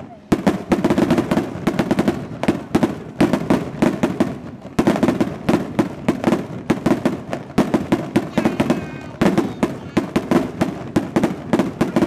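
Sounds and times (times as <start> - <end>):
firecrackers banging: 0.0 - 12.0.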